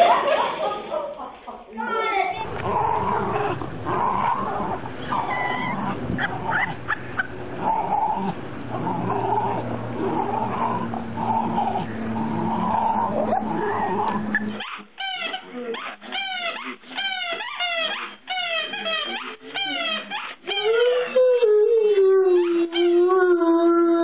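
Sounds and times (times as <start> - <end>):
dogs growling: 2.4 - 21.7.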